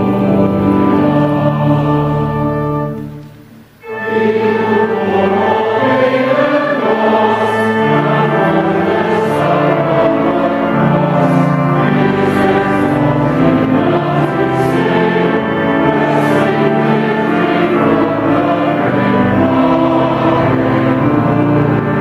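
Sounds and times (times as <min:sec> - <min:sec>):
choir singing sustained chords: 0:00.0 - 0:22.0.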